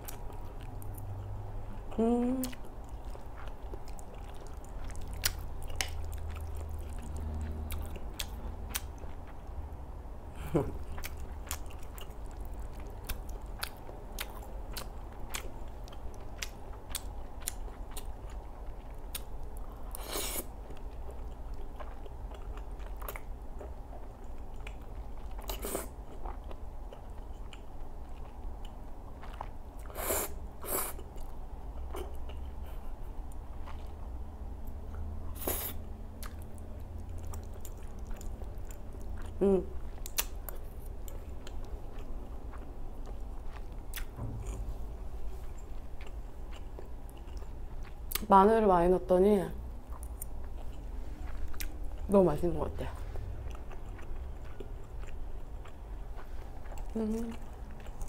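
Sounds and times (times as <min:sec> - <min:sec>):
chewing and lip-smacking: 0:00.0 - 0:09.6, 0:10.6 - 0:48.3, 0:49.8 - 0:52.1, 0:52.8 - 0:58.0.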